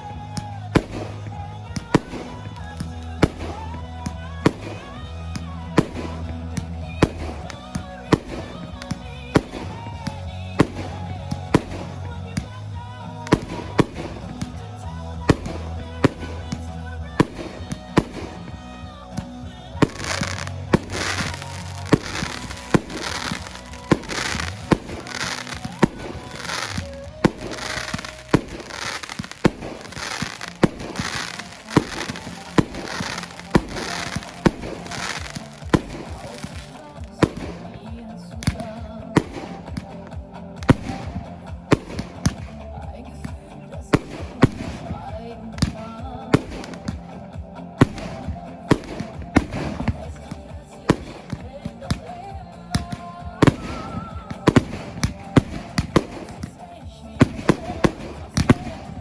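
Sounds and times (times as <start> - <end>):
fireworks bursting and crackling: 0.0 - 59.0
music with steady beat: 0.0 - 59.0.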